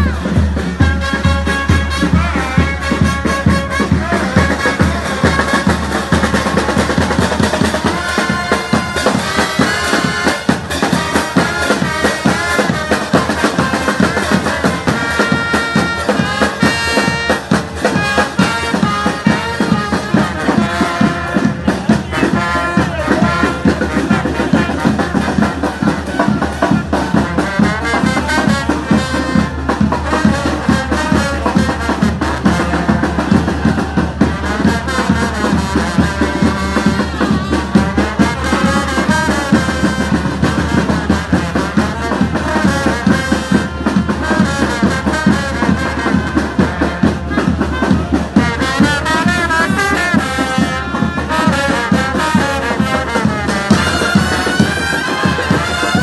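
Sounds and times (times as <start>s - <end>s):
brass band playing: 0.0s - 56.0s
drums beating: 0.0s - 56.0s.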